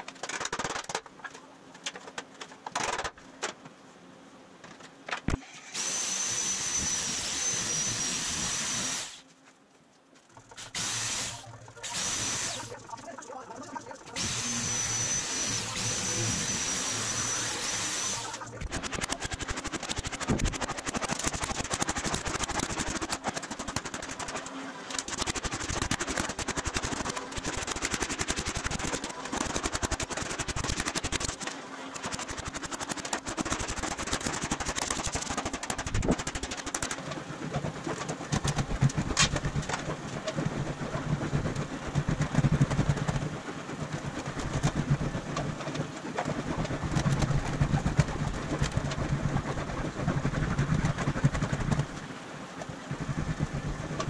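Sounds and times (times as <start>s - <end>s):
steady low hum: 6.4s - 54.0s.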